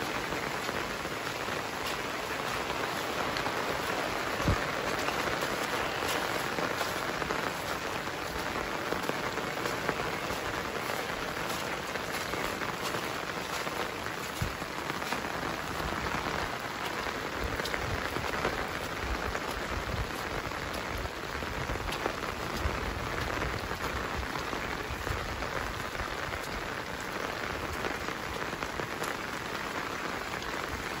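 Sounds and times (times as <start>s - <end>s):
heavy rain on water: 0.0s - 31.0s.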